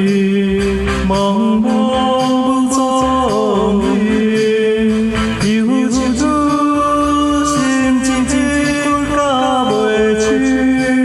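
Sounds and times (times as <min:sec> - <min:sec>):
karaoke backing track: 0:00.0 - 0:11.0
man singing a slow ballad: 0:00.0 - 0:11.0.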